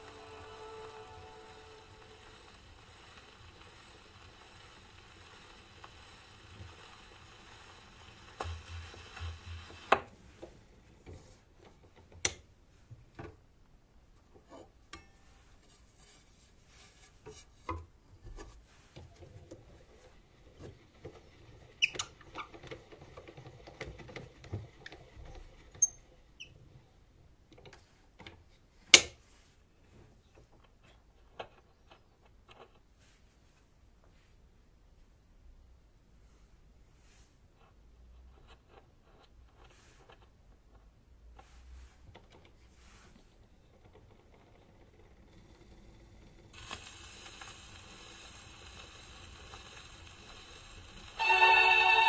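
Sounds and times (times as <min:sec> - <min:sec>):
record surface hiss: 0:00.0 - 0:52.0.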